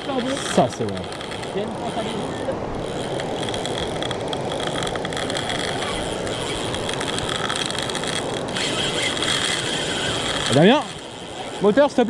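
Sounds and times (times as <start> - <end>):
fishing reel drag clicking: 0.0 - 12.0
high reel whine: 0.0 - 12.0.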